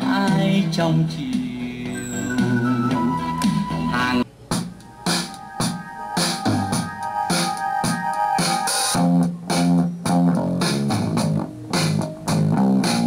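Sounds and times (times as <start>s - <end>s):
instrumental music through small loudspeaker: 0.0s - 13.0s.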